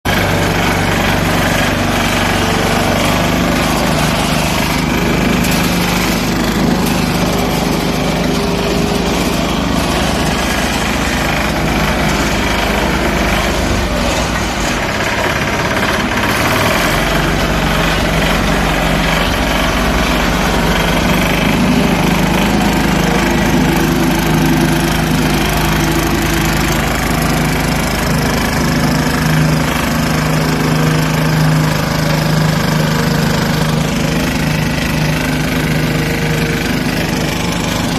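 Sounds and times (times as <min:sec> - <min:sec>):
small engine droning: 0:00.1 - 0:37.9
vibrating roller rattling: 0:00.1 - 0:37.9.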